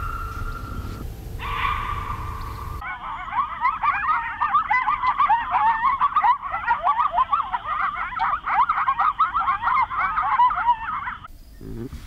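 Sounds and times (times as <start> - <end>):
fox screeching: 0.0 - 11.3
coyotes yipping and barking: 0.0 - 12.0.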